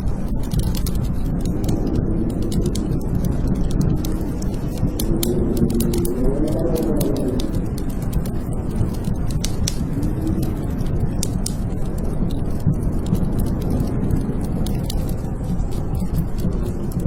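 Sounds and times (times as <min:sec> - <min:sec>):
wind howling: 0:00.0 - 0:17.0
wood fire crackling: 0:00.0 - 0:17.0.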